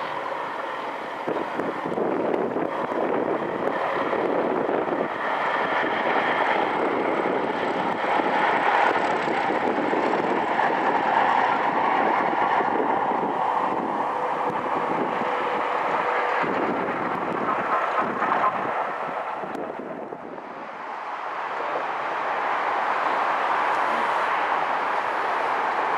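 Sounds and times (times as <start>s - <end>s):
diesel locomotives passing: 0.0s - 25.9s
rail noise: 0.0s - 25.9s.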